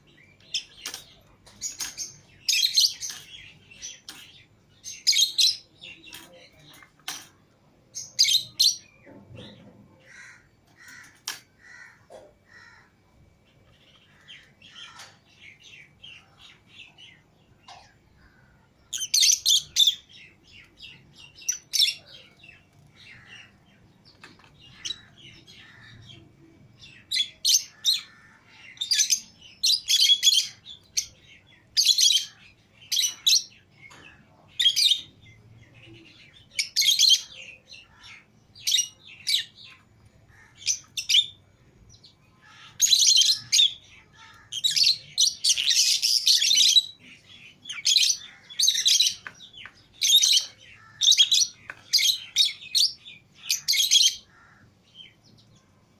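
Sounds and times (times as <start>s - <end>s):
lovebirds chirping and chattering: 0.0s - 55.9s.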